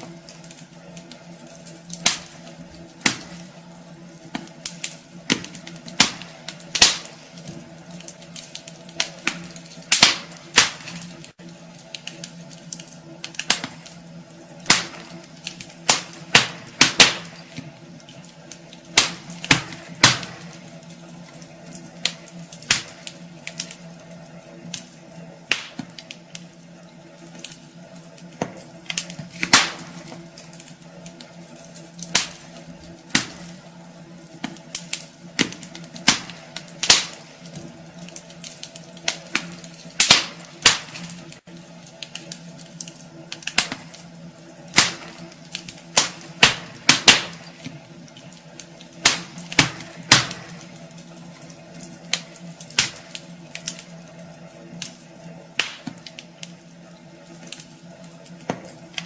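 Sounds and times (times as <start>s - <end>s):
steady low hum: 0.0s - 59.0s
wood fire crackling: 0.0s - 59.0s.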